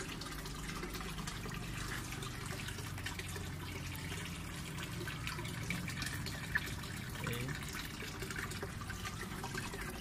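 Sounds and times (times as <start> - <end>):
water running and splashing: 0.0 - 10.0.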